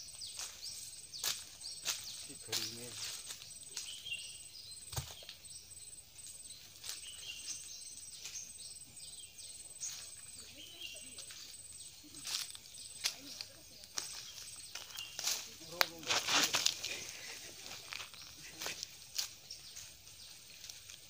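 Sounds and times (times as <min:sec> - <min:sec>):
birds chirping: 0:00.0 - 0:21.0
insect buzz: 0:00.0 - 0:21.0.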